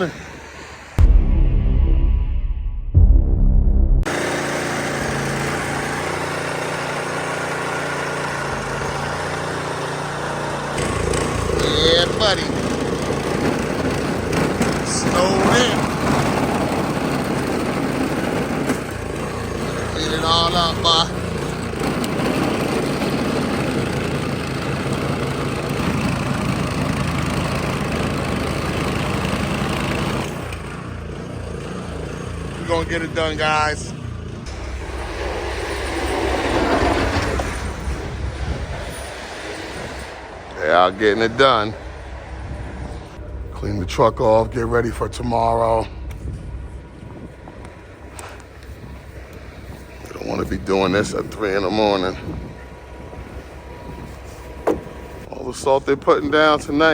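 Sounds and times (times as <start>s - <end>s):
snowblower engine running: 0.0s - 1.0s, 4.0s - 56.9s.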